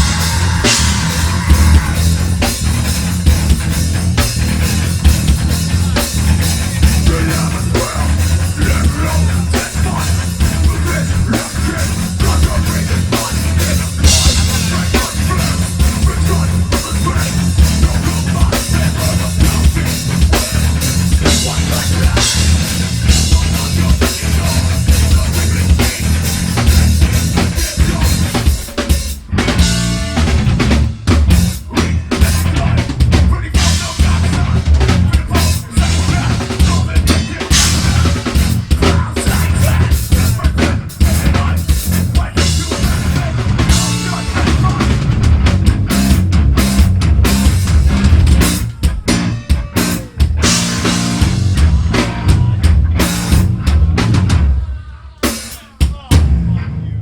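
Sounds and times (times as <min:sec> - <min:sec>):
metal band playing: 0:00.0 - 0:57.0.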